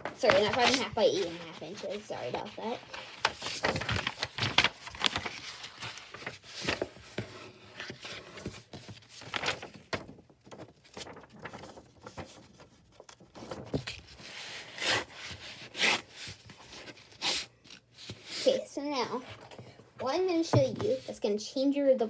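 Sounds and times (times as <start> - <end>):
paper rustling and sliding on table: 0.2 - 18.5.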